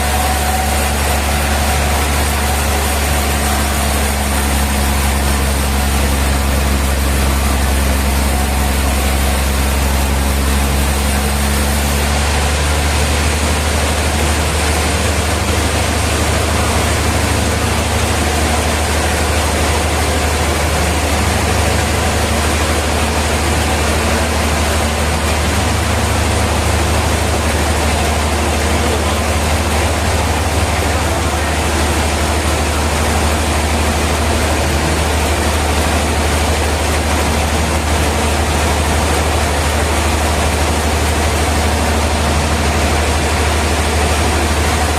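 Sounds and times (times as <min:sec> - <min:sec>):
sawmill machinery humming: 0:00.0 - 0:44.9.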